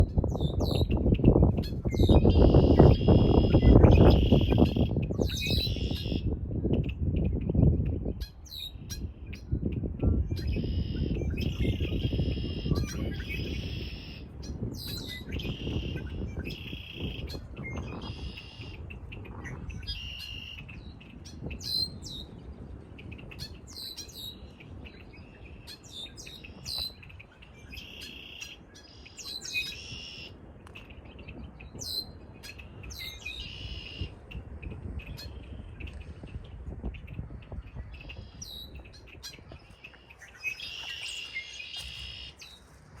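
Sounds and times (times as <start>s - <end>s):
songbirds singing: 0.0s - 43.0s
wind rumble on microphone: 0.0s - 43.0s.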